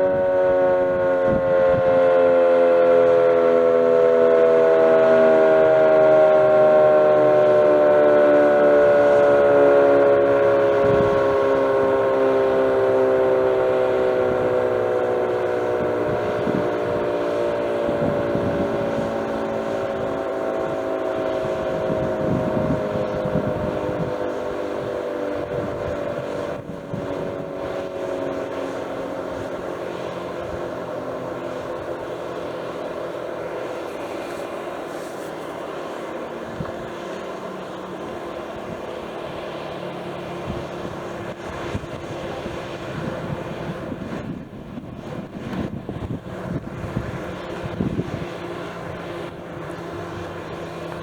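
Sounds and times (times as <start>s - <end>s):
warning siren winding down: 0.0s - 51.0s.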